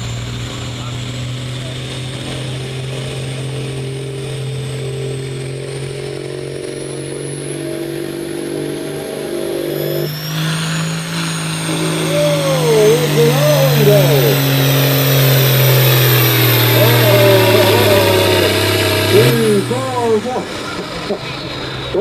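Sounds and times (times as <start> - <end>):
tractor engine running hard under load: 0.0 - 22.0.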